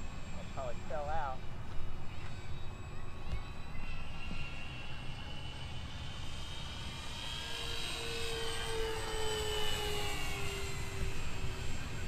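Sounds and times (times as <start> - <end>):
model plane motors whining: 0.0 - 12.0.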